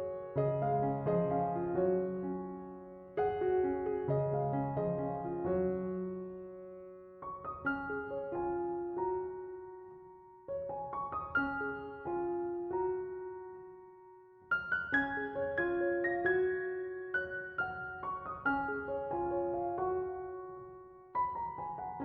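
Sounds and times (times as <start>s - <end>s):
slow solo piano: 0.0s - 22.0s.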